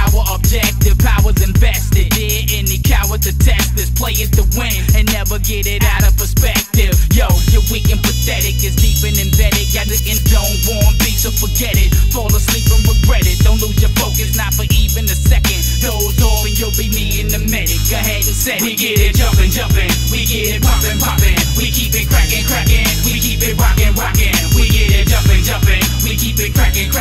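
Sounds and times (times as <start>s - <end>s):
rapping over a beat: 0.0s - 27.0s.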